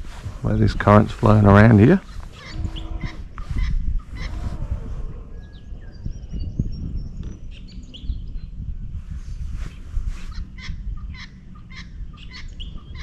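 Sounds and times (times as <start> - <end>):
low bird calls: 0.0 - 13.0
small birds chirping: 0.0 - 13.0
steady low rumble: 0.0 - 13.0.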